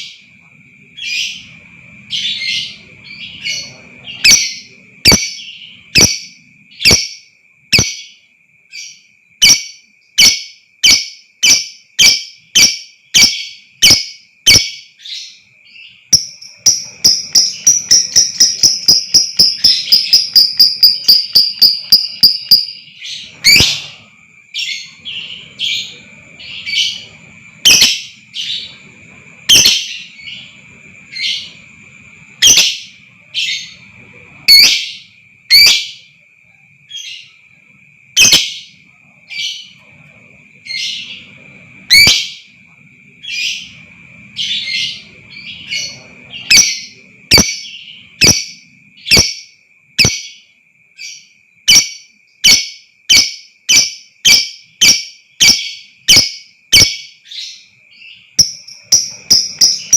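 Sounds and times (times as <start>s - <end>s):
lovebird chirping: 0.0s - 36.1s, 36.9s - 59.9s.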